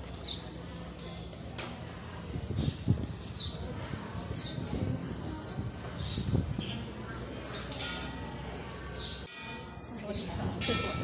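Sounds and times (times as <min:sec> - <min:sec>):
birds chirping: 0:00.0 - 0:11.0
murmur of voices: 0:00.0 - 0:11.0.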